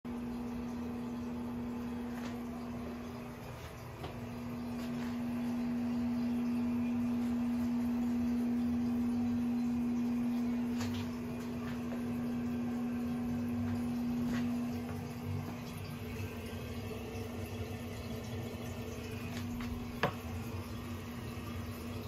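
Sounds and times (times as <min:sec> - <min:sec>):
electrical hum: 0:00.1 - 0:22.0.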